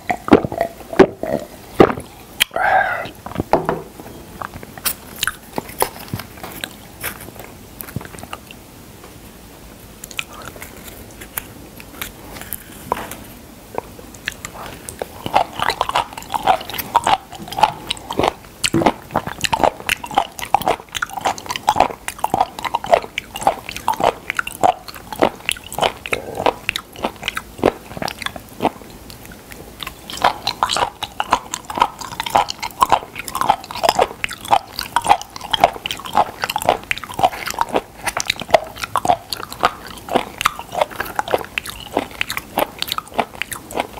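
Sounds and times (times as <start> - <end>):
person chewing seafood: 4.4 - 8.6, 9.9 - 43.9.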